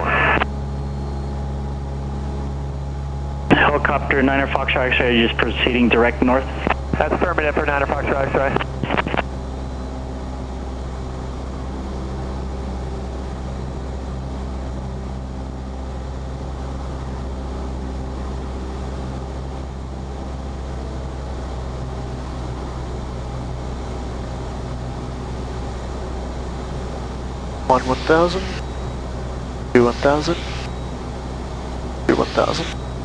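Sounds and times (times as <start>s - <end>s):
piston aircraft engine droning: 0.0s - 33.0s.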